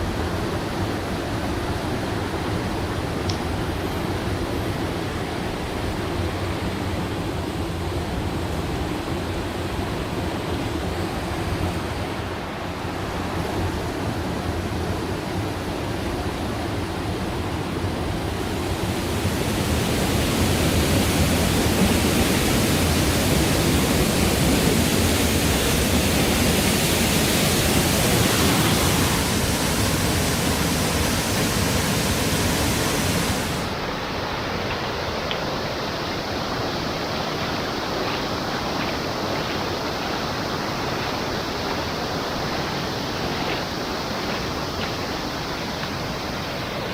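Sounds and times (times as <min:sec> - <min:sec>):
rushing stream water: 0:00.0 - 0:46.9.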